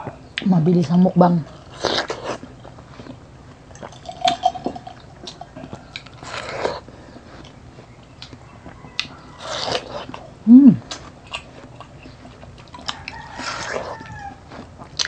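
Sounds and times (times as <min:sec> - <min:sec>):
wet chewing and smacking: 0:01.4 - 0:15.0.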